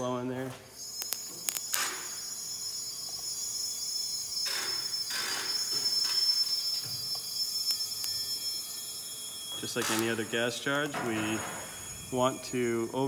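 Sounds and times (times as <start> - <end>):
gas charging whistle: 0.6 - 13.0.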